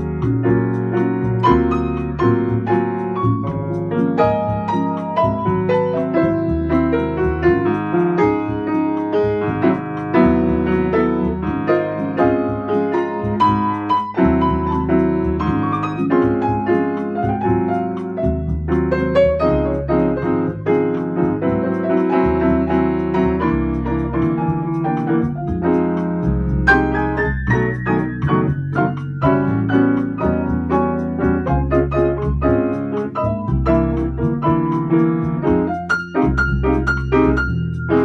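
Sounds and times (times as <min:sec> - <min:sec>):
grand piano playing: 0:00.0 - 0:38.0.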